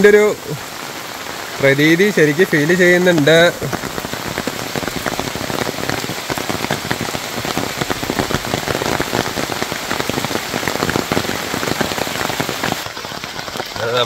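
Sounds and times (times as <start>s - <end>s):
rain falling steadily: 0.0s - 14.0s.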